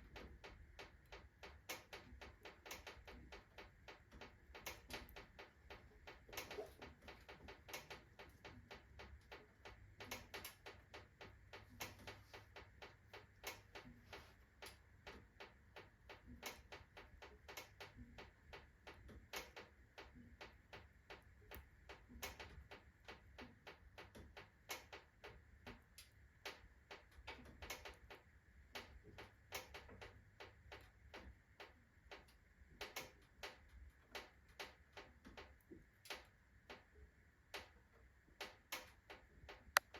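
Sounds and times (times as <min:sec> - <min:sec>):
wood stove ticking and clicking: 0:00.0 - 0:39.9.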